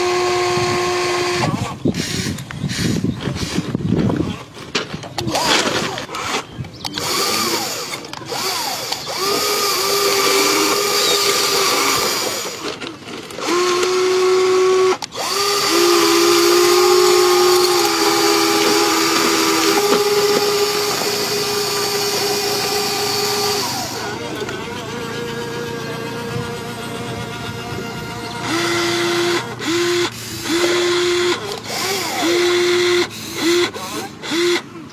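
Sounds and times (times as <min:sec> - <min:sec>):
small electric motors whining: 0:00.0 - 0:34.9.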